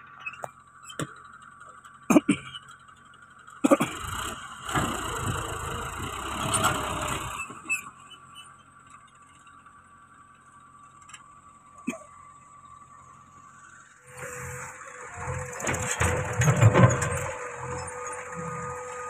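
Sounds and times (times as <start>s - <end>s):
tractor engine pulling away: 0.0s - 19.0s.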